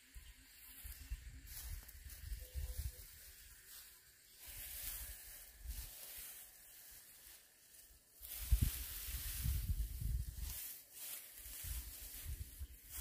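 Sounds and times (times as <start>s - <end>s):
straw rustling: 1.4s - 13.0s.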